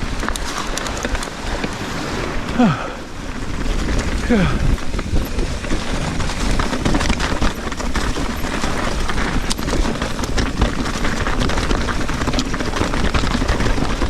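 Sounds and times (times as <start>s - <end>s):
mountain bike rattling over rocks: 0.0s - 14.0s
wind and ground rumble: 0.0s - 14.0s.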